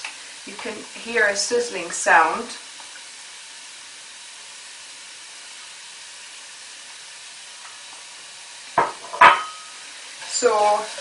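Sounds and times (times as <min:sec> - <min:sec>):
onions sizzling in a pot: 0:00.0 - 0:11.0.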